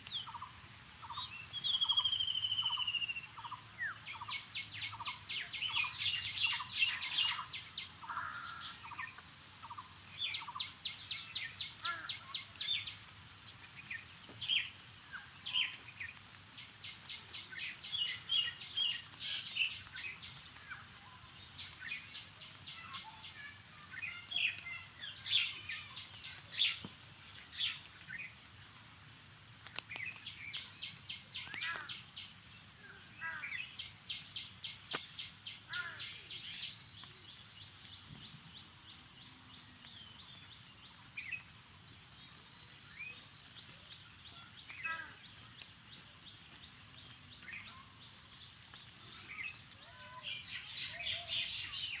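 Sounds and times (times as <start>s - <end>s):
small birds chirping: 0.0s - 28.8s, 29.6s - 52.0s.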